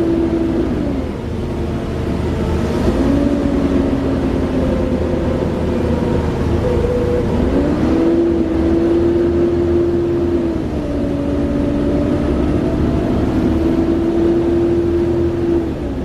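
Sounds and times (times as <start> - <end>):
diesel locomotive engine running: 0.0 - 16.0
turbocharger whine: 0.0 - 16.0.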